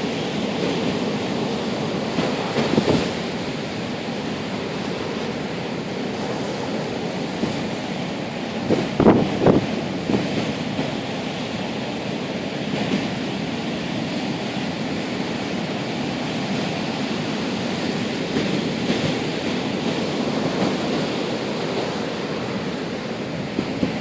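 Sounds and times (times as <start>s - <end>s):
strong wind: 0.0s - 24.0s
surf breaking and washing: 0.0s - 24.0s.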